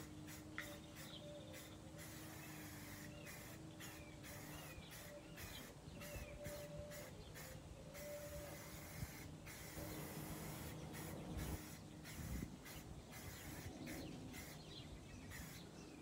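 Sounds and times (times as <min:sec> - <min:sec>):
aerosol spray can hissing: 0:00.0 - 0:14.6, 0:15.3 - 0:15.6.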